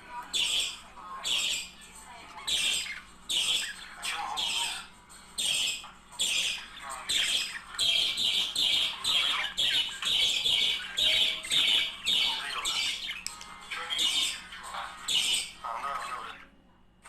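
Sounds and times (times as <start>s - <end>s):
budgerigars squawking and chattering: 0.2s - 16.4s.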